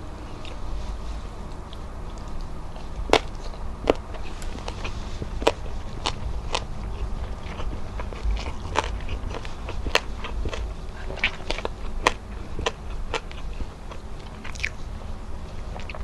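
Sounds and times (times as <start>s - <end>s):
fingers gathering food ticks: 1.4s - 14.8s
wet chewing mouth clicks: 1.5s - 14.8s.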